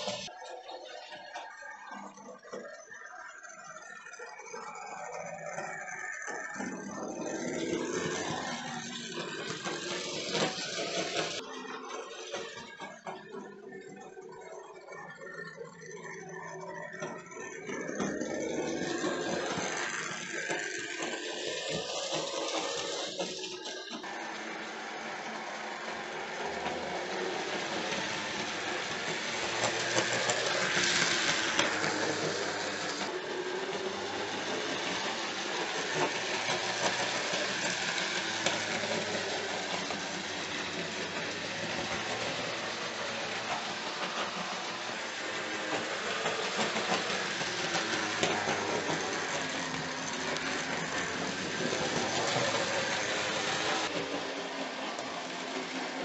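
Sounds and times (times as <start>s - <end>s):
model train motor hum: 0.0s - 3.7s, 4.3s - 56.0s
wheels rattling on rails: 0.0s - 56.0s.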